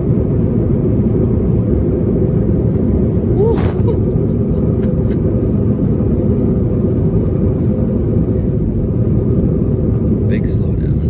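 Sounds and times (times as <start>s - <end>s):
constant cabin hum: 0.0s - 11.0s
jet engine and airflow noise: 0.0s - 11.0s.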